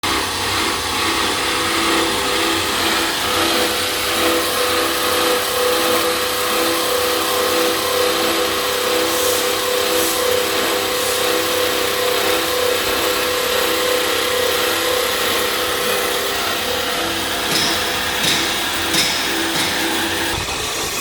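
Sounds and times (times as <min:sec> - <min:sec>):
pulsing motor hum: 0:00.0 - 0:21.0.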